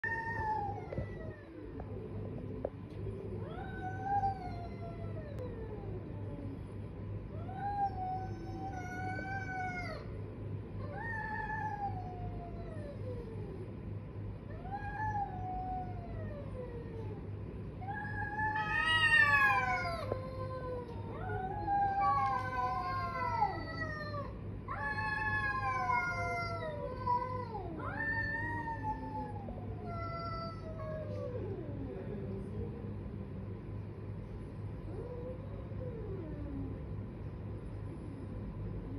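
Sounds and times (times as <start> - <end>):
cats yowling: 0.0 - 2.3, 3.1 - 32.1, 34.8 - 36.9.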